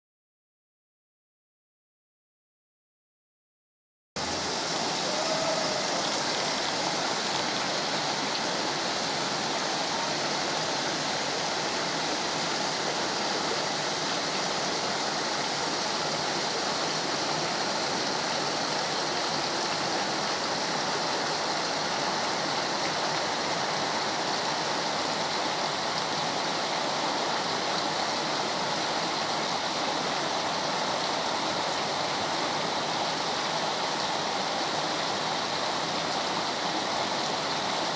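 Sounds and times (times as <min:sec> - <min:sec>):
water rushing over a weir: 0:04.2 - 0:37.9.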